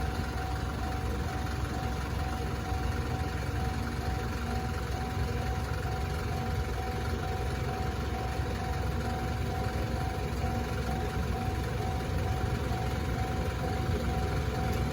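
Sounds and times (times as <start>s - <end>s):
level crossing warning bell: 0.0s - 14.9s.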